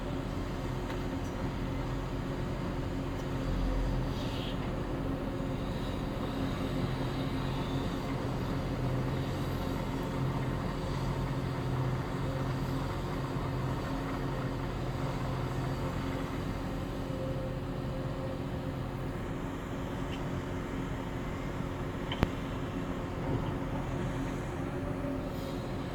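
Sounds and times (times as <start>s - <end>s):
heavy diesel engines droning: 0.0s - 25.9s.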